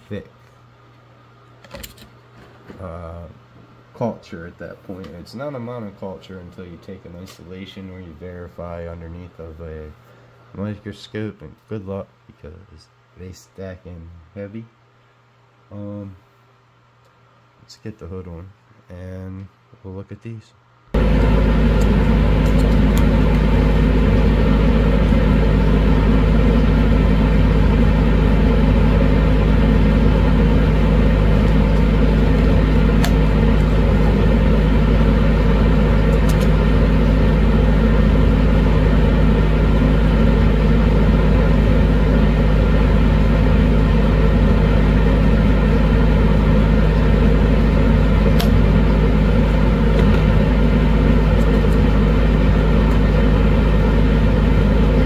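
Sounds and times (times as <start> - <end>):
blower rushing air with low hum: 0.0 - 18.9, 20.6 - 55.0.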